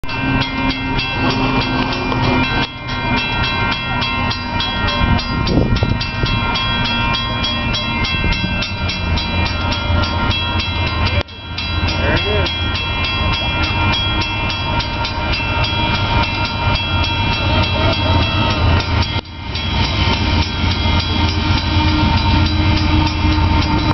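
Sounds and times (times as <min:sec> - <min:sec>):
crossing bell ringing: 0:00.0 - 0:23.9
train rumble: 0:00.0 - 0:23.9.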